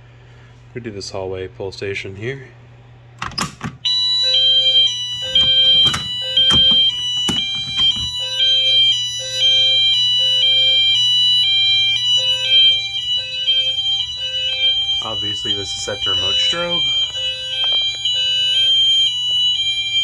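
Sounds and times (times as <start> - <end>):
hi-lo fire alarm horns: 3.8 - 20.0.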